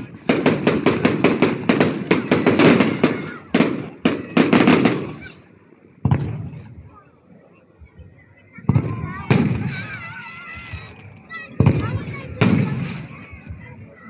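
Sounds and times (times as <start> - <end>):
fireworks cracking and banging: 0.0 - 6.9, 8.6 - 14.0.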